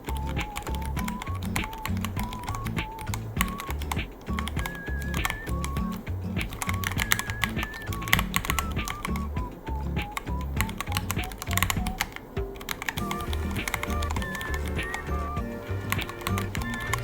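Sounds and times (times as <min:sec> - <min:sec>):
background music: 0:00.0 - 0:17.0
mechanical keyboard typing: 0:00.1 - 0:09.2, 0:10.0 - 0:17.0.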